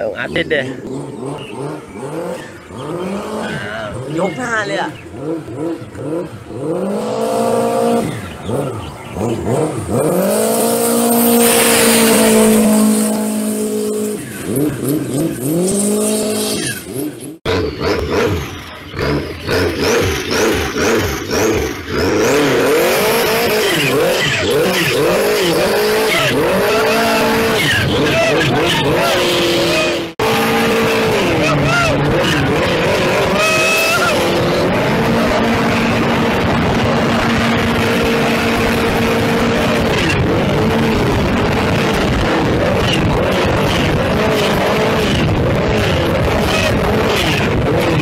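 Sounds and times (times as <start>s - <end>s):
boat engine revving: 0.0s - 48.0s.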